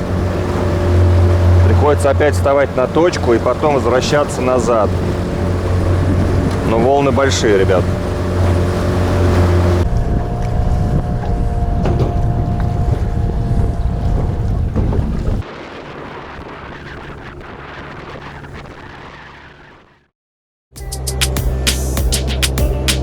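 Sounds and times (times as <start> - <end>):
outboard motor running: 0.0 - 19.8
wind buffeting microphone: 0.0 - 19.9
waves splashing: 0.0 - 20.0.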